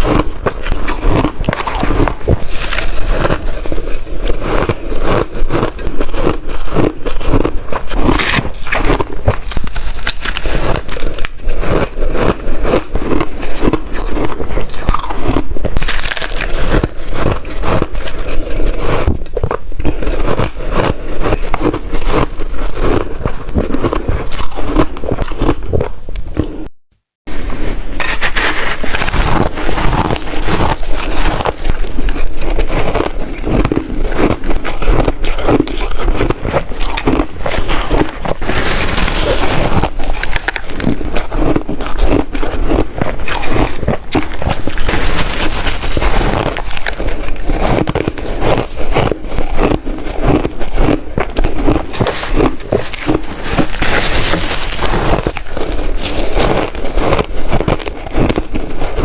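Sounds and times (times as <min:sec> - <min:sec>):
ice crunching being chewed: 0:00.0 - 0:26.7, 0:28.0 - 0:59.0.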